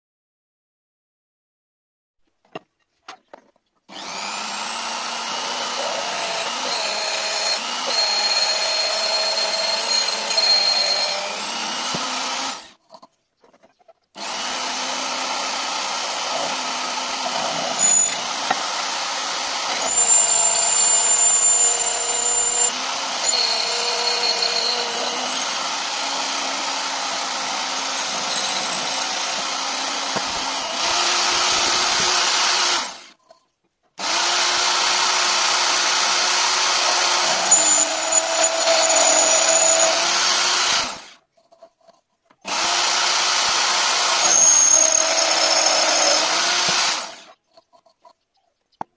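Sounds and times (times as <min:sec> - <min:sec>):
drill press drilling metal: 0:03.9 - 0:12.7, 0:14.2 - 0:33.1, 0:34.0 - 0:41.1, 0:42.5 - 0:47.2.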